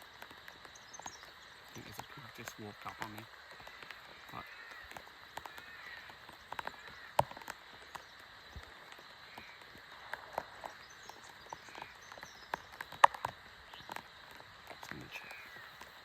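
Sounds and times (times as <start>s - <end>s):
faint steady background: 0.0s - 16.0s
water dripping onto leaves: 0.0s - 16.0s.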